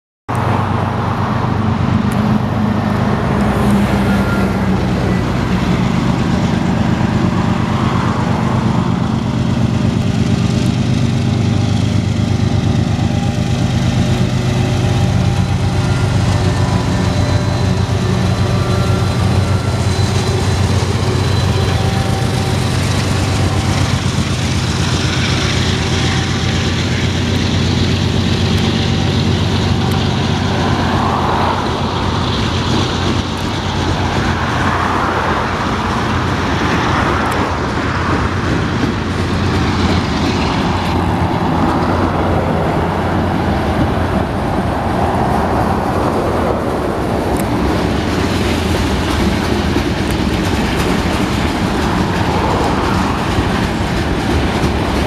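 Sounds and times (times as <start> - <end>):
diesel locomotive drone: 0.3 - 55.0
rolling train rumble: 0.3 - 55.0.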